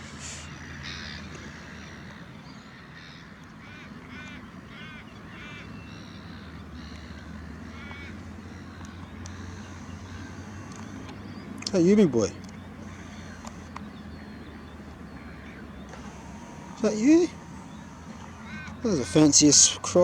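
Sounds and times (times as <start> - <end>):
birds giving harsh calls: 0.0 - 20.0.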